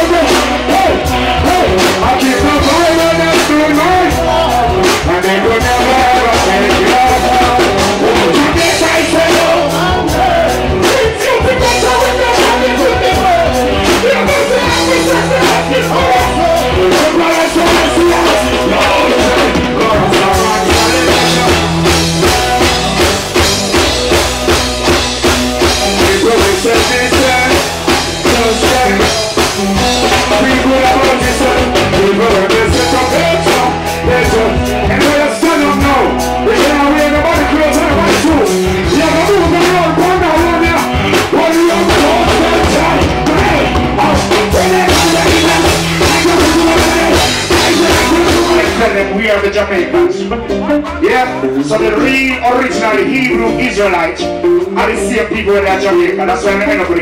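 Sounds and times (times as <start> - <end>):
person singing: 0.0 - 57.0
reggae band playing: 0.0 - 57.0.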